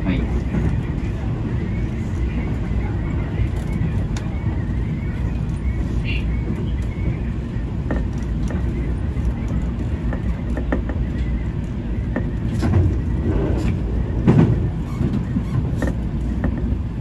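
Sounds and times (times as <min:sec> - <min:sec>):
train rumble from inside: 0:00.0 - 0:17.0.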